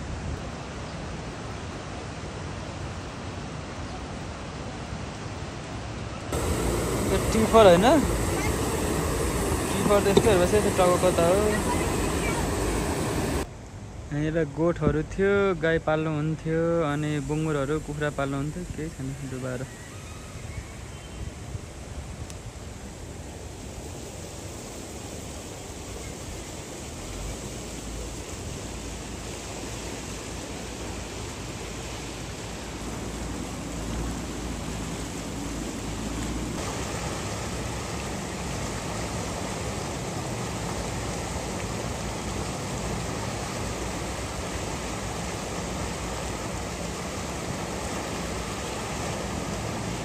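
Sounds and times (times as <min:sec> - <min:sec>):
river water rushing: 0:00.0 - 0:14.0, 0:15.2 - 0:50.0.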